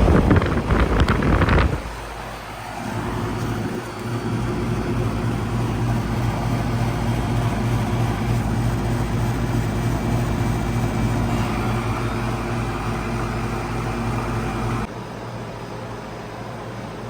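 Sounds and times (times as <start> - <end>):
compressor humming: 0.0 - 14.9
condenser fan rushing: 0.0 - 14.9.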